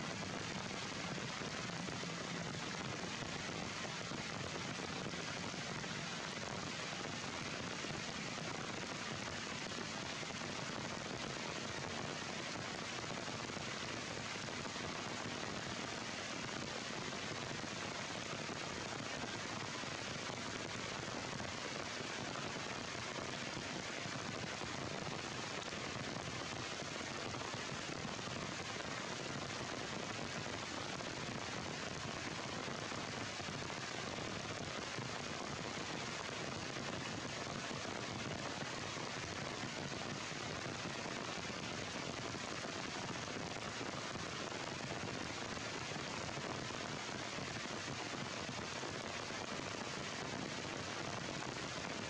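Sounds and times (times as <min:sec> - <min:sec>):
heavy rain falling: 0:00.1 - 0:51.8.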